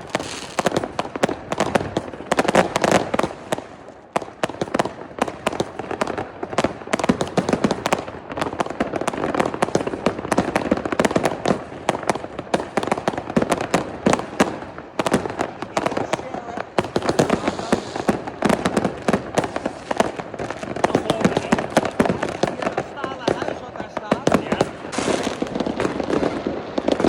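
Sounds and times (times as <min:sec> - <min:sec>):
fireworks and firecrackers crackling: 0:00.0 - 0:27.0.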